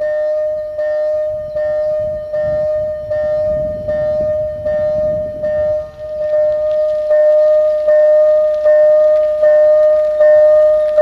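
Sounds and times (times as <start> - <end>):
bell-like tone: 0.0 - 11.0
low rumble: 0.0 - 11.0.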